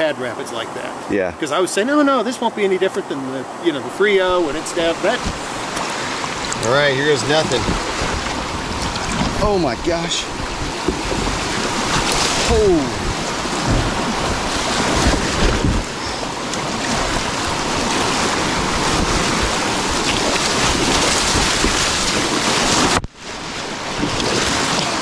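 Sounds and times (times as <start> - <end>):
whitewater rushing and splashing: 0.0 - 25.0
wind buffeting microphone: 4.2 - 25.0.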